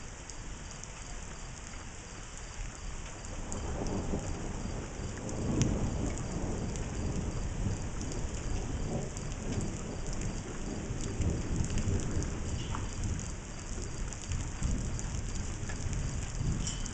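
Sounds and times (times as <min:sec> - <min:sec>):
rain falling: 0:00.0 - 0:16.9
raindrop ticks: 0:00.0 - 0:16.9.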